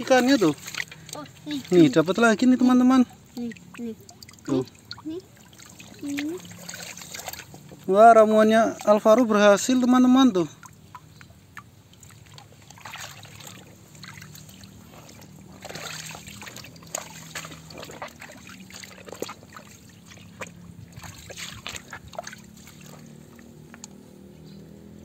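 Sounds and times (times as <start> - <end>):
small water splashes: 0.0 - 24.3
stream water sloshing and trickling: 0.0 - 25.0.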